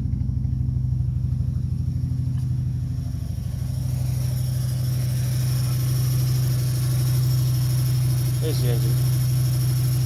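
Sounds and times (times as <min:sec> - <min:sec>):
car engine idling rough: 0:00.0 - 0:10.0.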